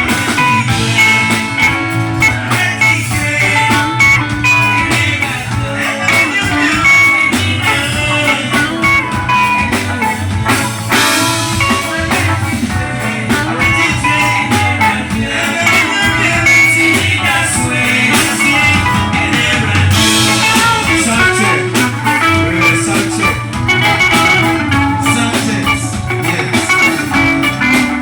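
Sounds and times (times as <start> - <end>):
band playing guitar music: 0.0 - 28.0
bass line: 0.0 - 28.0
drum beats: 0.0 - 28.0
picked guitar notes: 0.0 - 28.0.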